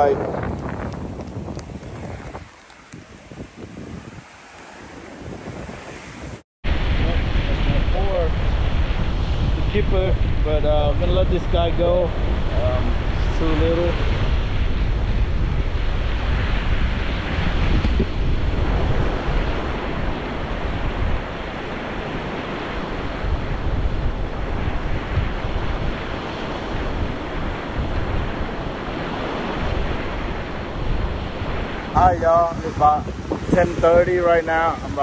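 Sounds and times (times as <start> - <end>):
surf washing onto beach: 0.0 - 35.0
wind rumbling on microphone: 0.0 - 35.0.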